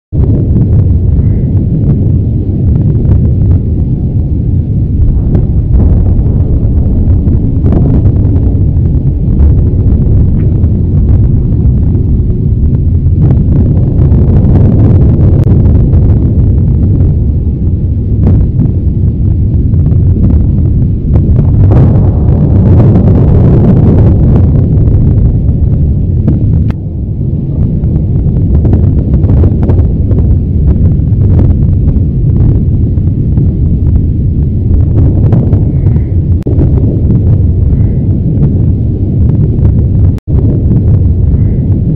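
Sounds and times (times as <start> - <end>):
deep volcanic rumble: 0.0 - 41.9
sharp crackles: 0.2 - 41.9.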